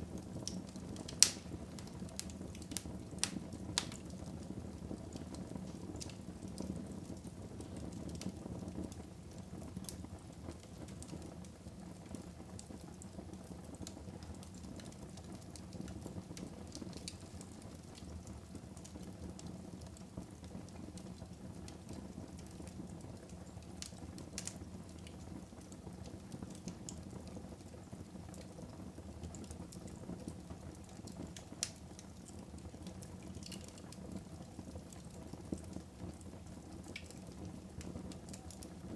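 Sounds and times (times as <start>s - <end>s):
burning logs crackling and popping: 0.0s - 38.9s
low rumble of flames: 0.0s - 38.9s.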